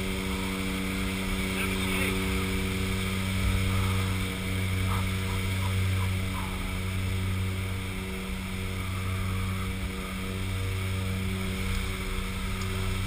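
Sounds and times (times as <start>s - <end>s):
plane engines droning in cabin: 0.0s - 13.0s.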